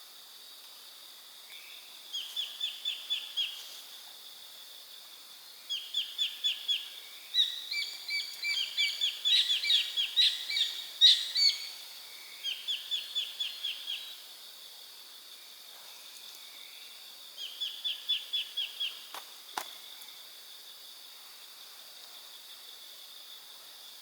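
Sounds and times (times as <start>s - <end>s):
high insect hum: 0.0s - 24.0s.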